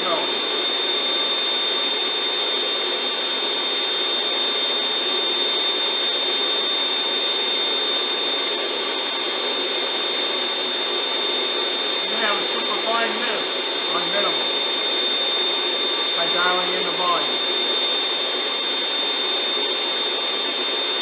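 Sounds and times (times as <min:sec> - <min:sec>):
constant high whine: 0:00.0 - 0:21.0
snow machine blower rushing: 0:00.0 - 0:21.0.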